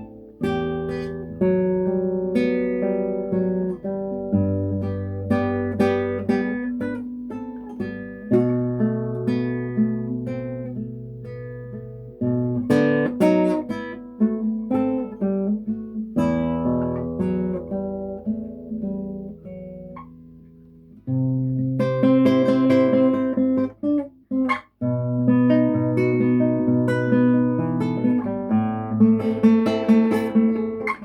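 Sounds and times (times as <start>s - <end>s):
solo classical guitar melody: 0.0s - 31.0s.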